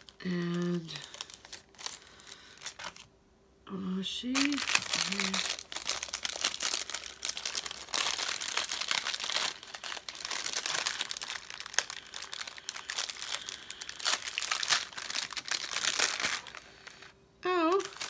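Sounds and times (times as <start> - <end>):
plastic bag crinkling: 0.0 - 3.1, 4.2 - 18.0.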